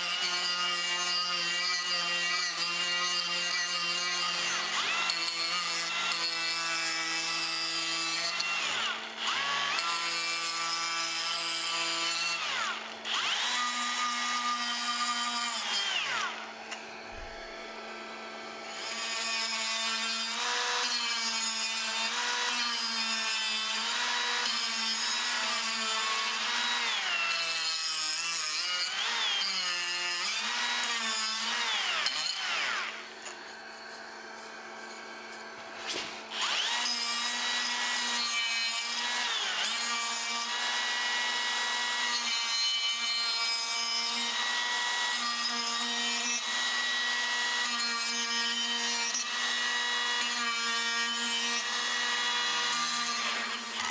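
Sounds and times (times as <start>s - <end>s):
die grinder whining: 0.0s - 53.9s.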